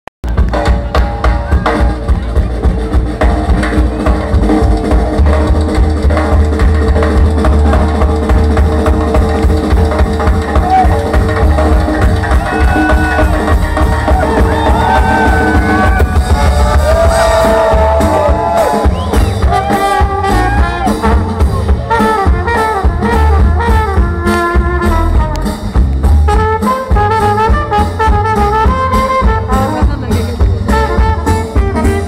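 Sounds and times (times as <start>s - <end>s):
double bass: 0.2s - 32.0s
drum kit: 0.2s - 32.0s
trumpet melody: 0.9s - 32.0s.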